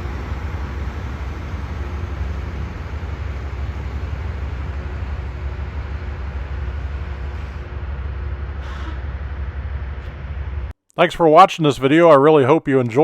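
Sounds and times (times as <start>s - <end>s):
rail grinding machine running: 0.0s - 10.7s.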